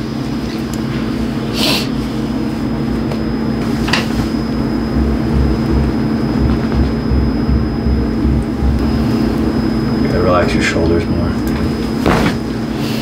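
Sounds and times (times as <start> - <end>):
air conditioning hum: 0.0 - 13.0.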